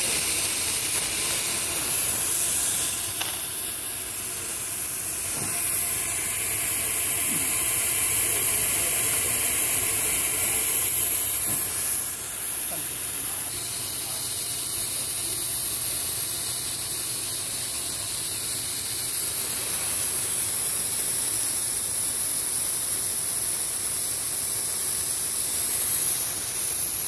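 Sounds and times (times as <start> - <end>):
steady even hiss: 0.0 - 27.0.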